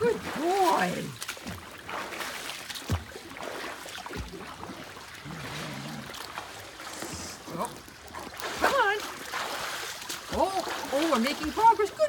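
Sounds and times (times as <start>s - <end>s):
pool water lapping: 0.0s - 12.0s.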